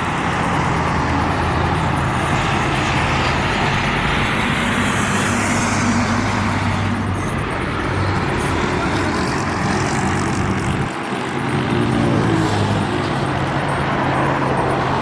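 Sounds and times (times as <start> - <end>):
diesel trucks engine drone: 0.0 - 15.0
tyre and road noise: 0.0 - 15.0.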